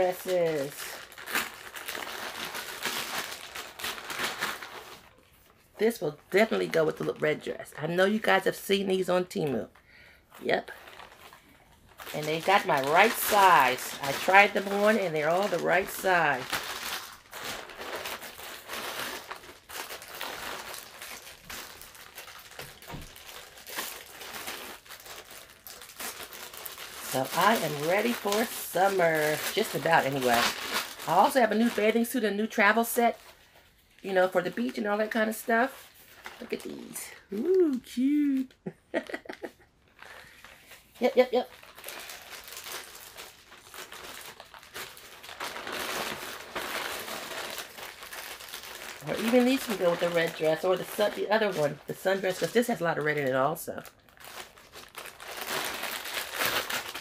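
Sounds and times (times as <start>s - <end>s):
plastic bag crinkling: 0.0s - 57.0s.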